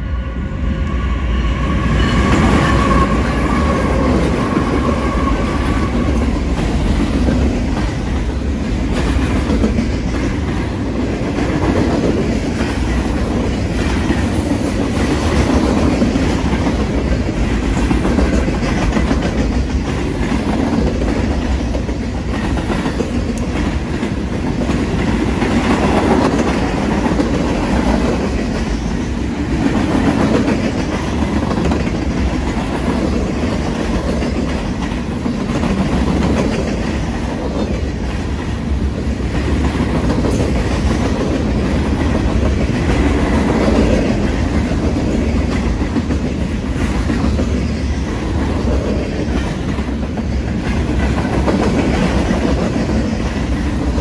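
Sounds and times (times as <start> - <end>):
train rumble: 0.0 - 54.0
wheels clacking on rails: 0.8 - 54.0.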